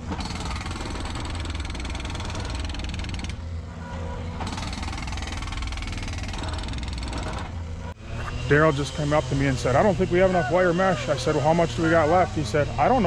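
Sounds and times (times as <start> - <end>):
skid loader engine running: 0.0 - 13.0.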